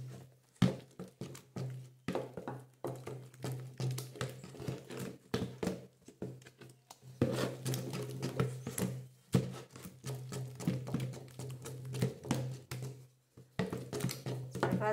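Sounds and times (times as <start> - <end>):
spoon scraping plastic bucket: 2.5 - 14.9.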